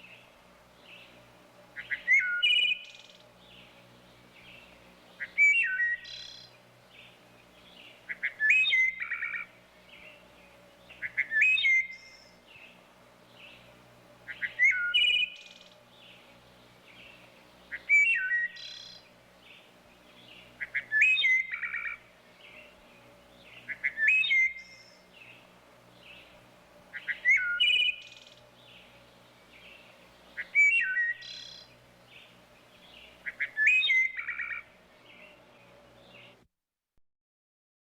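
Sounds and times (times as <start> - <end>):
wood thrush singing: 0.0 - 36.4.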